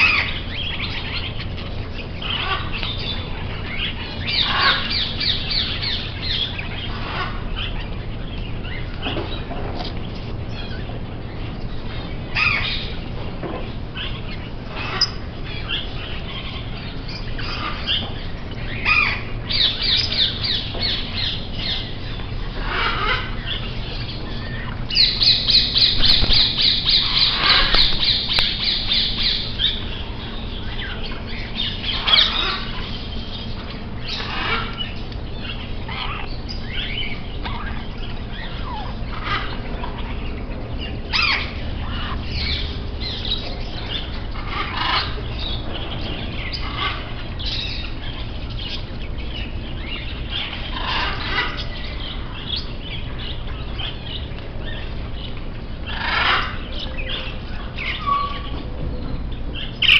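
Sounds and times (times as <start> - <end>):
budgerigars and parrots chattering: 0.0 - 59.9
steady low hum: 0.0 - 59.9.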